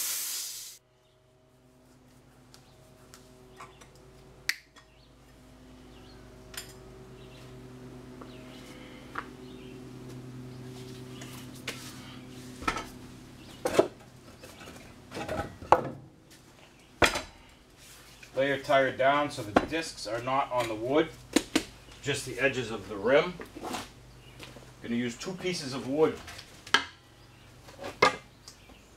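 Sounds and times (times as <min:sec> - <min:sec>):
steady low hum: 0:00.6 - 0:28.9.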